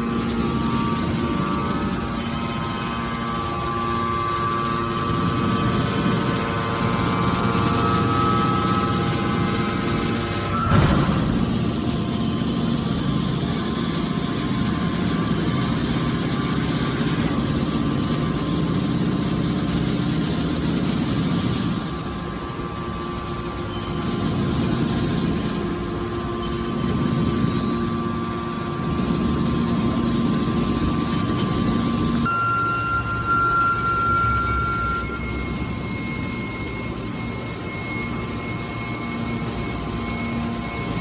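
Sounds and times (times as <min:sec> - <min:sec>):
hydraulic baler humming and whining: 0:00.0 - 0:41.0.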